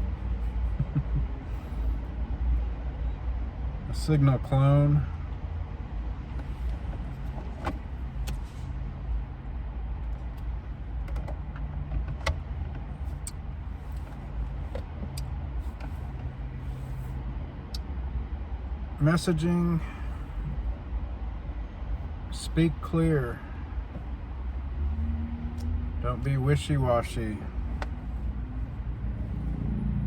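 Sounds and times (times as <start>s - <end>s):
low vehicle rumble: 0.0s - 30.0s.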